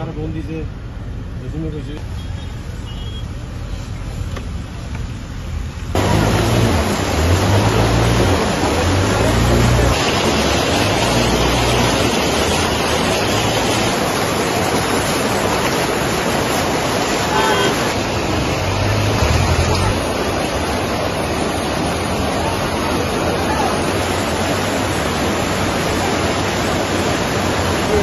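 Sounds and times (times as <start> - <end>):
floodwater rushing: 2.0 - 28.0
low rumbles: 4.0 - 28.0.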